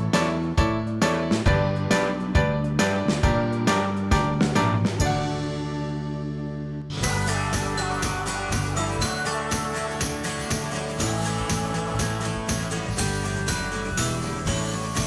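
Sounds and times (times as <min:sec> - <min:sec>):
upbeat music with bells and guitar: 0:00.0 - 0:05.8, 0:06.9 - 0:15.0.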